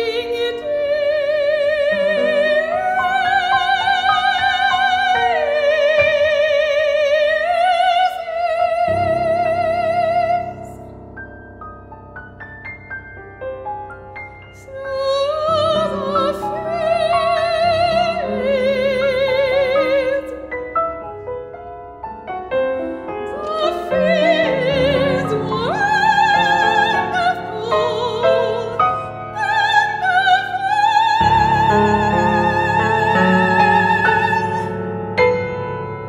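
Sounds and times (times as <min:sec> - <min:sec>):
soprano singing with vibrato: 0:00.0 - 0:10.9, 0:14.6 - 0:20.6, 0:22.9 - 0:35.0
piano accompaniment: 0:00.0 - 0:36.0.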